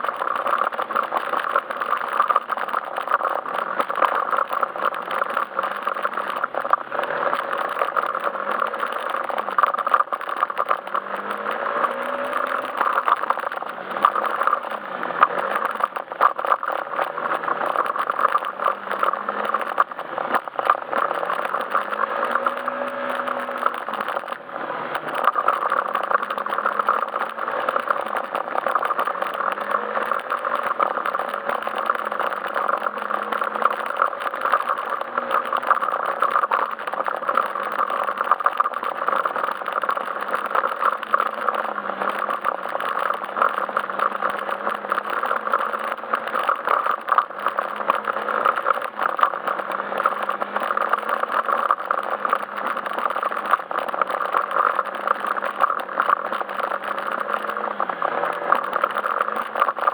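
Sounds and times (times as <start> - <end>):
rattling over rough road: 0.0 - 59.9.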